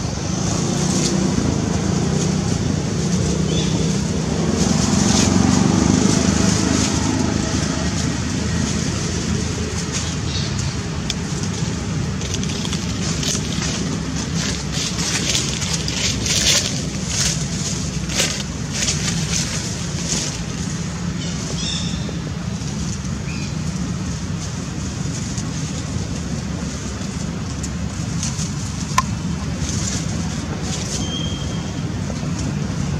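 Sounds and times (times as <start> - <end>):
dry leaves rustling: 0.0 - 32.9
wind rumbling on microphone: 0.0 - 32.9.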